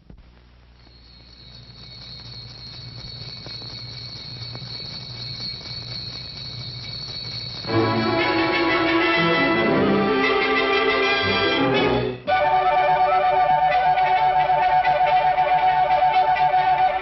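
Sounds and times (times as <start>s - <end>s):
film hiss: 0.0s - 17.0s
thin high-pitched whine: 0.0s - 17.0s.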